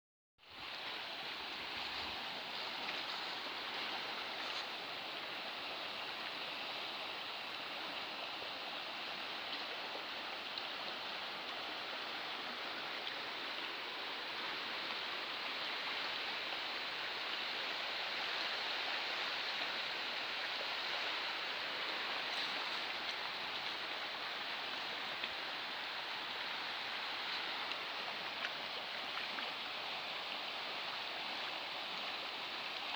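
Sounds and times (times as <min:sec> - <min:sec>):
river water rushing: 0:00.5 - 0:32.9.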